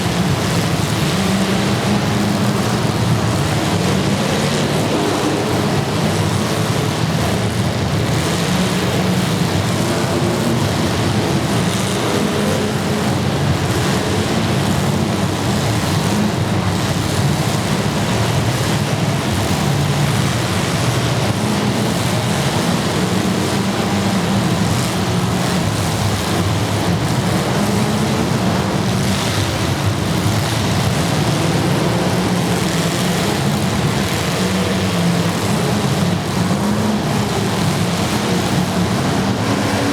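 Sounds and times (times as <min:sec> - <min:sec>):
car engines running: 0:00.0 - 0:39.9.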